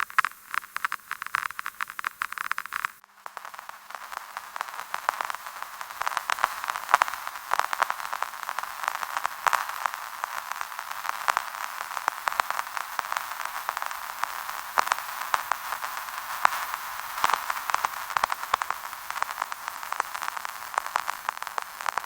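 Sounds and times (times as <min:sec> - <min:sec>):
record hiss and crackles: 0:00.0 - 0:22.0.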